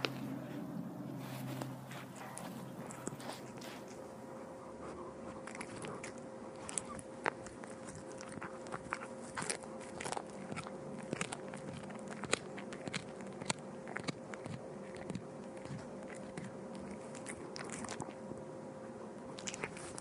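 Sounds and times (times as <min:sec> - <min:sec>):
cat crunching and chewing food: 0:00.0 - 0:20.0
faint steady hum: 0:00.0 - 0:20.0.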